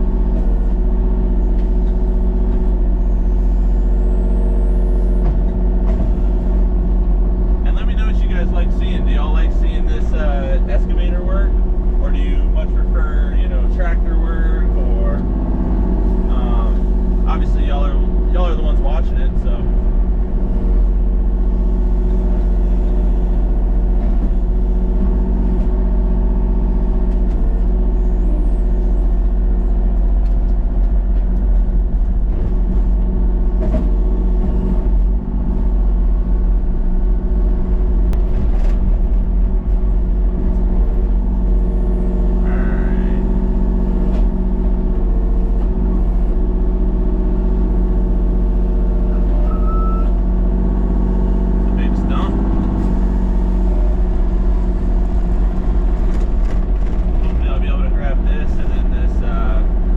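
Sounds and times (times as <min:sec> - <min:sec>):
vehicle engine running steadily: 0:00.0 - 0:59.9.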